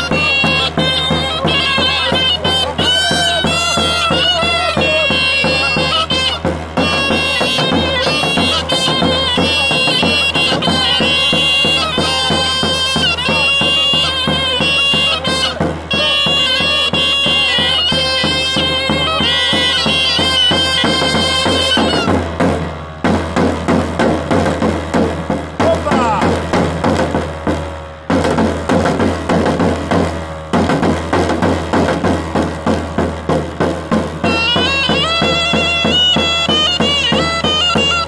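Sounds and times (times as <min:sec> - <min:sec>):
reedy folk pipes melody: 0:00.0 - 0:27.1, 0:28.6 - 0:38.0
large drum beaten with stick: 0:00.0 - 0:38.0.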